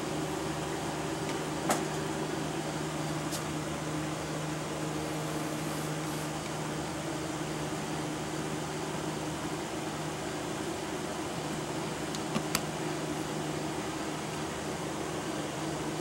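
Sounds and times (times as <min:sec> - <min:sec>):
electric fans humming: 0:00.0 - 0:16.0.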